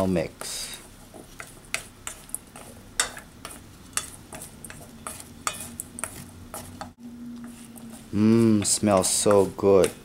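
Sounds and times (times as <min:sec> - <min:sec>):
wooden spatula scraping metal bowl: 0:00.3 - 0:10.0.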